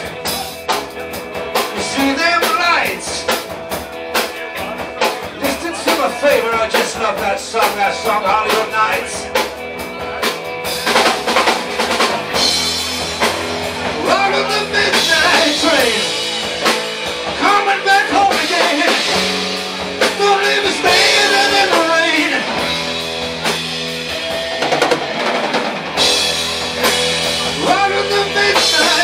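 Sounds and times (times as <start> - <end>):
bending lead guitar line: 0.0 - 29.0
live rock band playing: 0.0 - 29.0.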